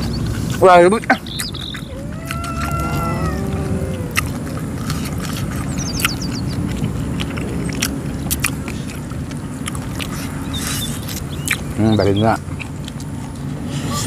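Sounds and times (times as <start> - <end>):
chewing with crunches: 0.0 - 14.0.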